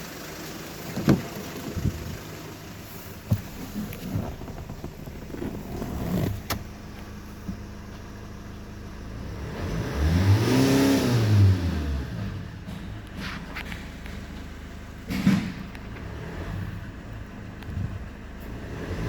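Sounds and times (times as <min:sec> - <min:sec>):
diesel engine idling and revving: 0:00.0 - 0:19.0.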